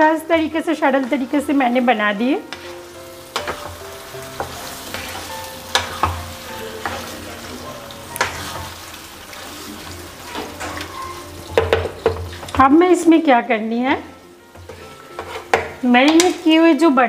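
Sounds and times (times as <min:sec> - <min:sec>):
chicken frying and sizzling in a pan: 0:00.0 - 0:17.0.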